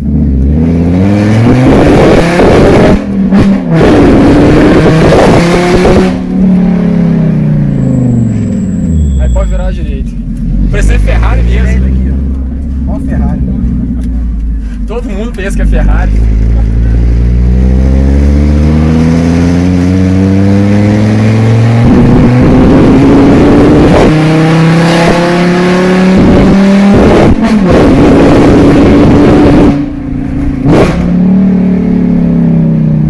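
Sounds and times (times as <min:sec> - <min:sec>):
loud engine accelerating hard: 0:00.0 - 0:33.0.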